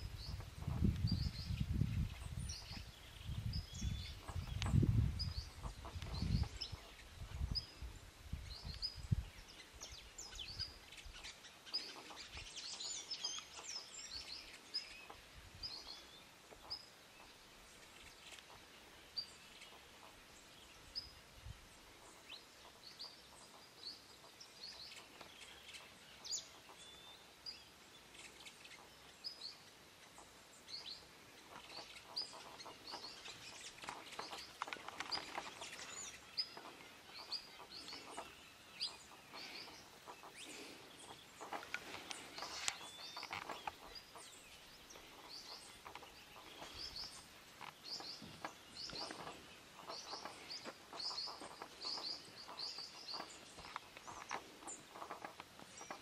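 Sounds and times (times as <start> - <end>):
busy bird calls: 0.0 - 56.0
small bird chirping: 0.0 - 56.0.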